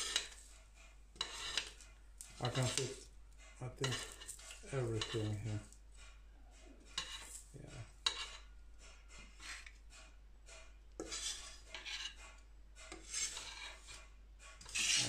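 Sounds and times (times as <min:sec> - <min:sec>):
spatula scraping metal griddle: 0:00.0 - 0:15.0.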